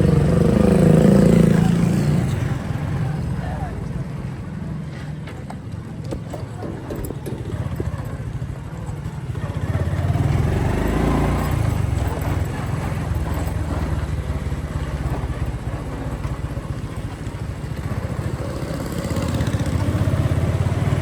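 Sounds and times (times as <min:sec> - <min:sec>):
motorcycle engine running: 0:00.0 - 0:04.5, 0:05.8 - 0:21.0
road noise: 0:00.0 - 0:21.0.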